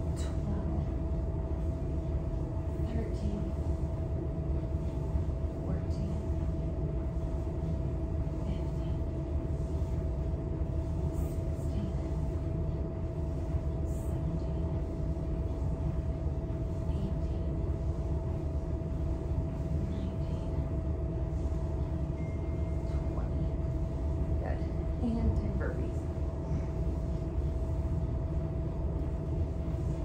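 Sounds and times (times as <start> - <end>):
low mechanical rumble: 0.0 - 30.0
mid-pitched hum: 0.0 - 30.0.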